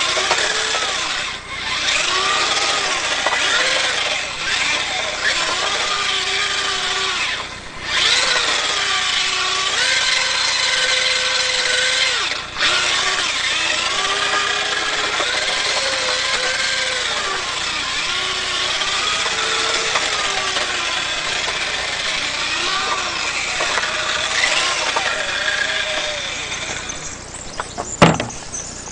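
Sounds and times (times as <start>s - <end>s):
toy car electric motor whining: 0.0s - 28.9s.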